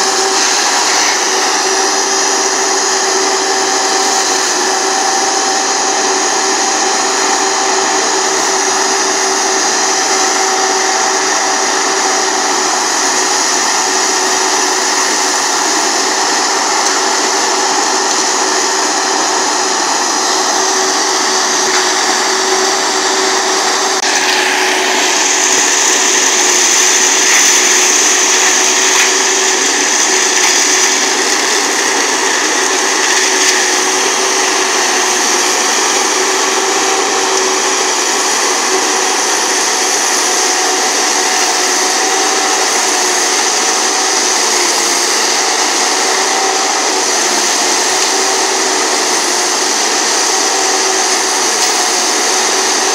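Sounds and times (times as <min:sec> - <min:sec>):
forestry mulcher grinding brush: 0:00.0 - 0:52.9
high mechanical whine: 0:00.0 - 0:52.9.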